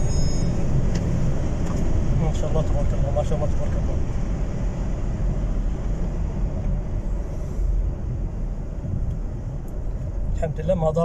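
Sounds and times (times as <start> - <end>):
car engine rumble: 0.0 - 11.0
road noise inside car: 0.0 - 11.0.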